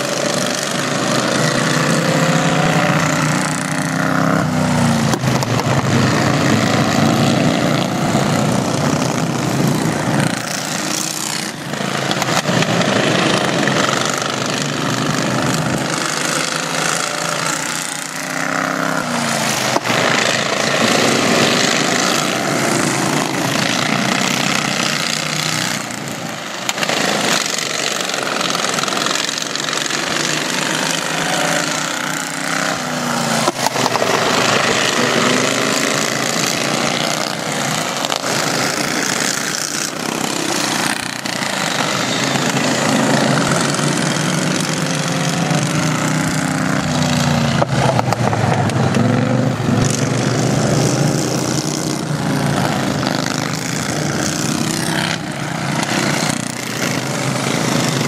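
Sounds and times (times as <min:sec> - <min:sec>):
racing lawn tractor engines: 0:00.0 - 0:58.0.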